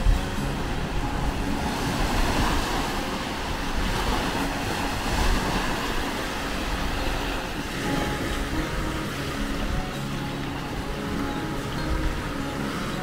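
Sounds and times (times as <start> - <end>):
surf washing onto beach: 0.0 - 13.0
wind rumble on microphone: 0.0 - 13.0.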